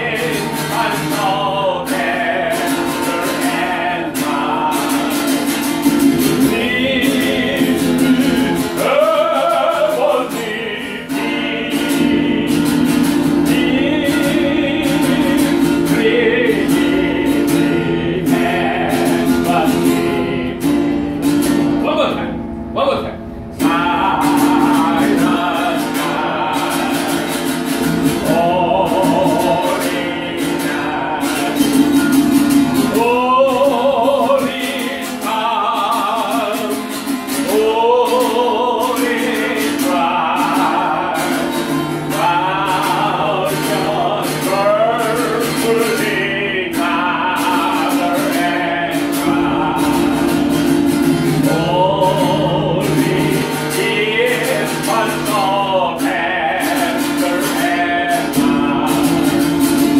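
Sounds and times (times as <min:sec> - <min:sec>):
group of voices singing along: 0:00.0 - 0:21.3, 0:23.3 - 0:59.9
man singing: 0:00.0 - 0:23.0, 0:23.6 - 0:59.9
acoustic guitar: 0:00.0 - 0:59.9.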